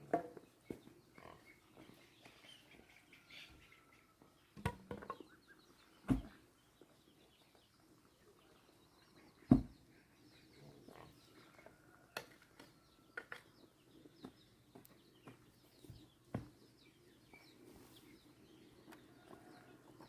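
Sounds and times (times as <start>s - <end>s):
faint bird chirping: 0.4s - 20.0s.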